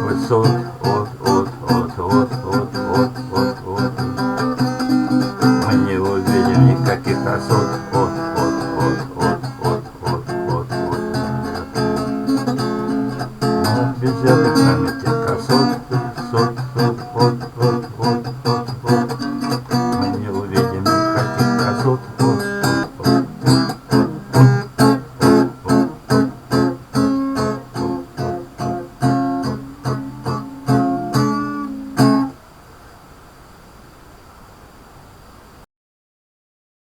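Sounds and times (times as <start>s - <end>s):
acoustic guitar strumming: 0.0s - 32.4s.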